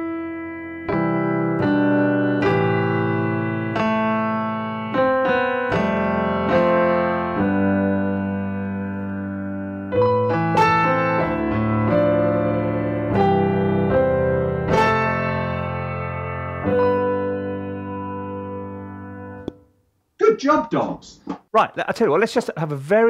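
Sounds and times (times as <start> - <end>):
slow piano melody with chords: 0.0 - 19.8.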